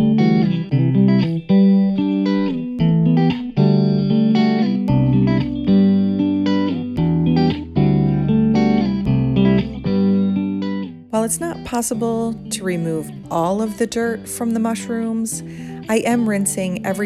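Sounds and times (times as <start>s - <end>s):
guitar instrumental music: 0.0s - 17.0s.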